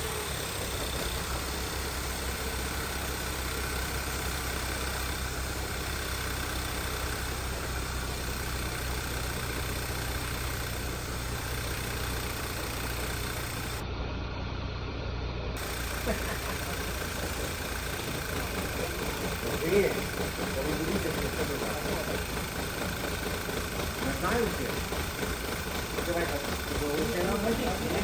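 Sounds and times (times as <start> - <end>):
car engine idling: 0.0 - 13.9, 15.5 - 28.0.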